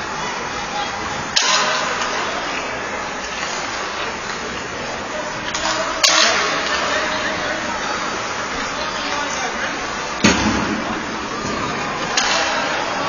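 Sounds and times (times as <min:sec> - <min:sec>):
ice rink noise: 0:00.0 - 0:13.0.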